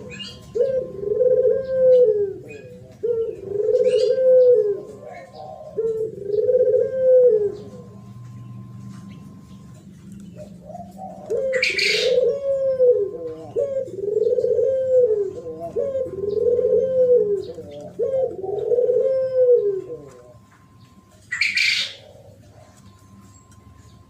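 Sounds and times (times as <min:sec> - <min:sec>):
small birds chirping: 0:00.0 - 0:12.4, 0:13.2 - 0:24.0
dove cooing: 0:00.0 - 0:24.0.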